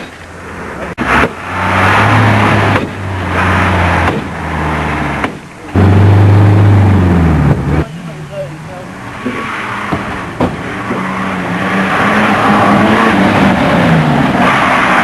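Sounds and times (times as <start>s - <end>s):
old car engine revving: 0.0s - 15.0s.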